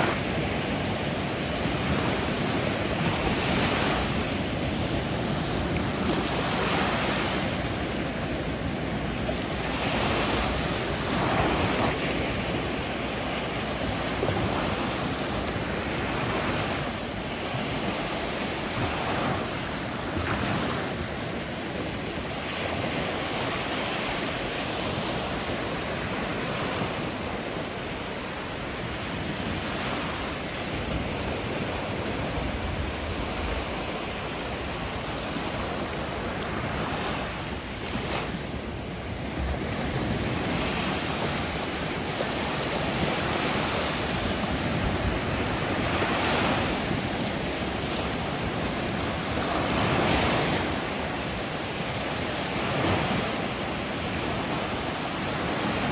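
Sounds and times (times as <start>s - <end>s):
sea surf washing onto shore: 0.0s - 55.9s
wind rumbling on microphone: 0.0s - 55.9s.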